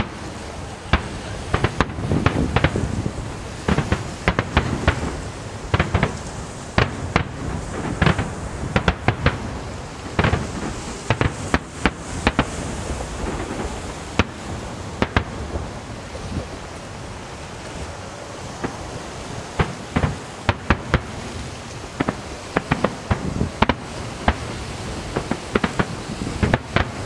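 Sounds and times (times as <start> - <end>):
aerial fireworks shells bursting: 0.0 - 27.0
steady background rush: 0.0 - 27.0.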